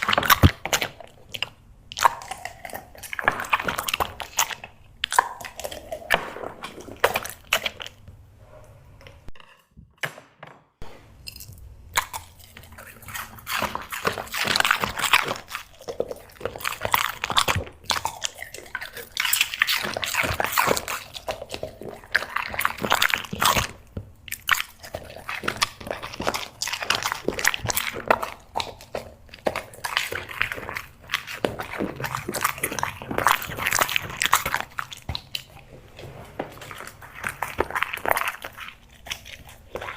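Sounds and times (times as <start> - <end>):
dog chewing and crunching food: 0.0 - 8.4, 10.8 - 39.9.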